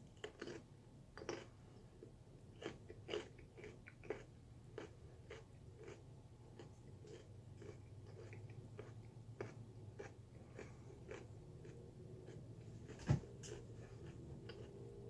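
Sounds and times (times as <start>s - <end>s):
low steady hum: 0.0s - 15.0s
person chewing crunchy food: 0.0s - 15.0s.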